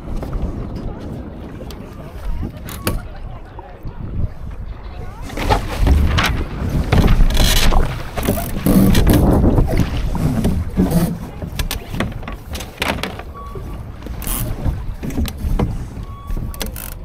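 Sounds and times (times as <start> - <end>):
water splashing against a boat hull: 0.0 - 17.0
wind on microphone: 0.0 - 17.0.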